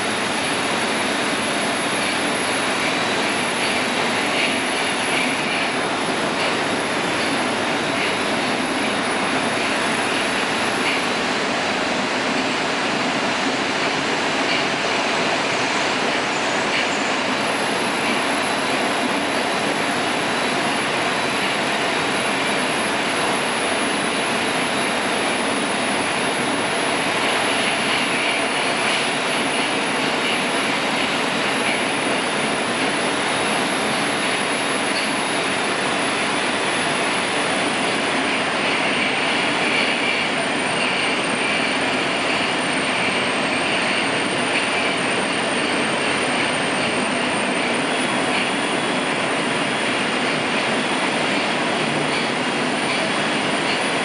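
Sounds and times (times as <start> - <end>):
train wheels rushing on rails: 0.0 - 54.0.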